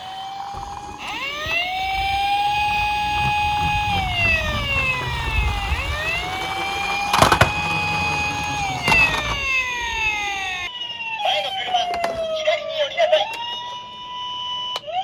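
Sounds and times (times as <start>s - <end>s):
toy police siren wailing: 0.0s - 15.0s.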